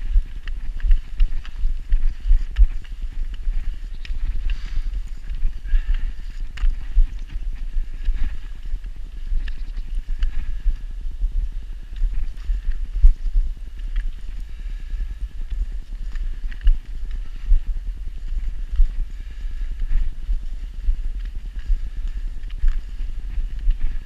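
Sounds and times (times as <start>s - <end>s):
footsteps on snowy road: 0.0s - 24.0s.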